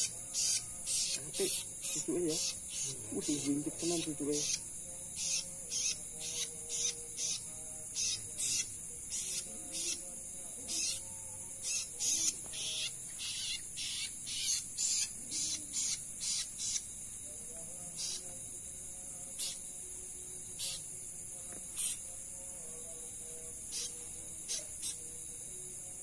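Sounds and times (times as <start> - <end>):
high-pitched insect drone: 0.0 - 26.0
insect chirps: 0.0 - 26.0.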